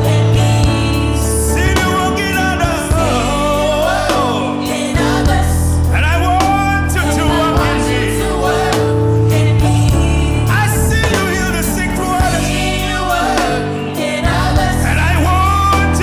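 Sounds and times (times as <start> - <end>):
choir singing gospel: 0.0 - 16.0
keyboard and bass accompaniment: 0.0 - 16.0.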